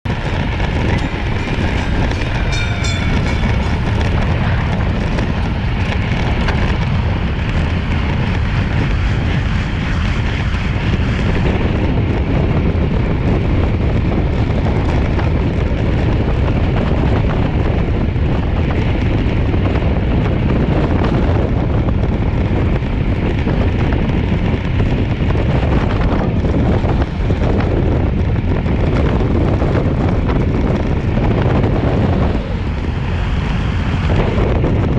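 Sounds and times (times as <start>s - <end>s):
wind rumble on microphone: 0.0s - 34.9s
tyres on asphalt: 0.1s - 34.9s.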